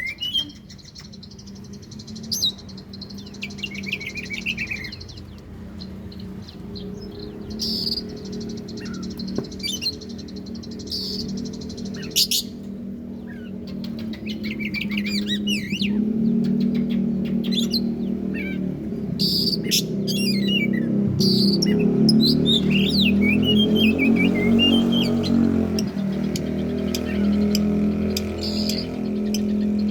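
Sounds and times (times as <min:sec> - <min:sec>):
bird singing chirps and trills: 0:00.0 - 0:29.9
low droning background: 0:01.0 - 0:29.9.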